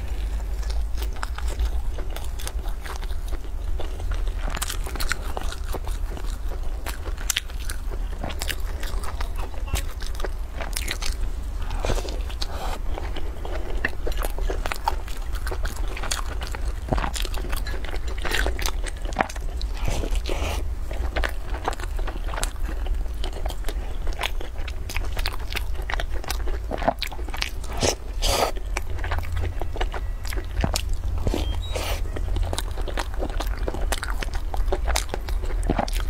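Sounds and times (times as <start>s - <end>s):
crunchy chewing: 0.0s - 36.0s
steady low hum: 0.0s - 36.0s.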